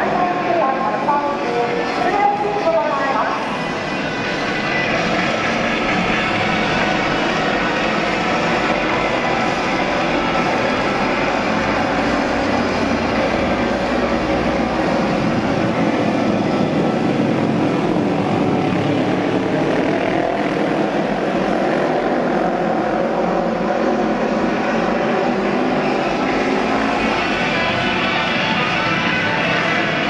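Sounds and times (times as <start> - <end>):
racing motorcycles engine drone: 0.0 - 30.0.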